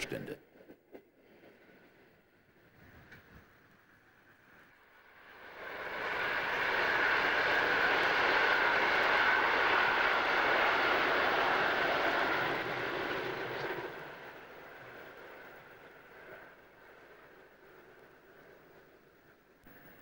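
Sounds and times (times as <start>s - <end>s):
diesel locomotive engine: 1.7s - 20.0s.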